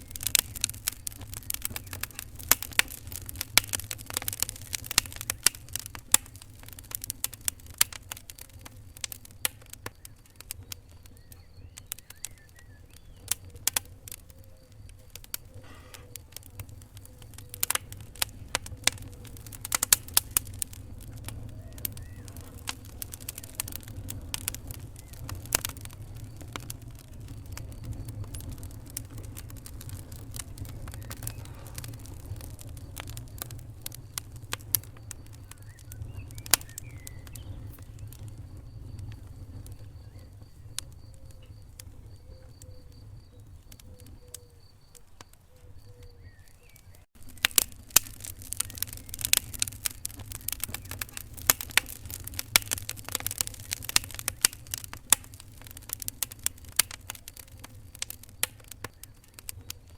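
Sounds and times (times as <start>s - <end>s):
fire crackling and popping: 0.0s - 59.9s
loud fire snap: 0.0s - 59.9s
low rumble of flames: 0.0s - 59.9s.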